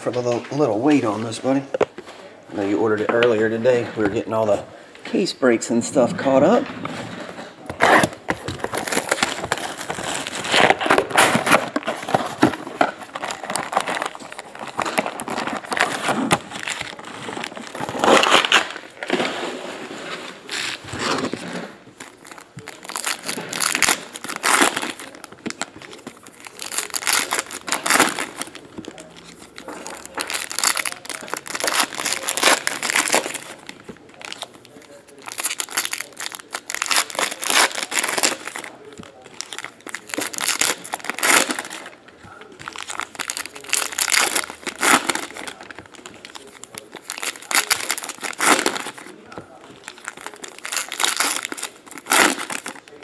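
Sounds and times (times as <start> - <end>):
wrappers crinkling and tearing: 7.8 - 53.0.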